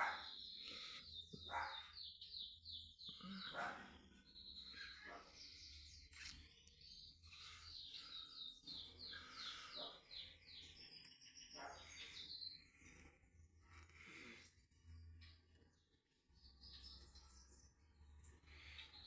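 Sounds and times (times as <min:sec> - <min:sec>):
bird chirping softly: 0:00.0 - 0:19.0.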